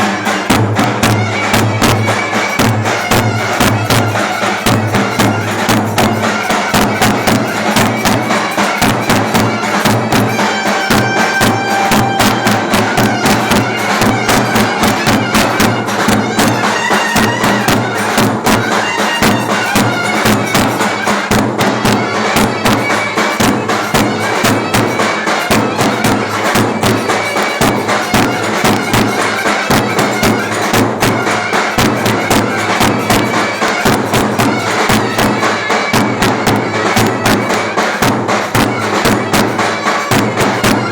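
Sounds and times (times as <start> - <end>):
bass drum beating fast rhythm: 0.0 - 40.9
clarinet wavering melody: 1.3 - 38.0.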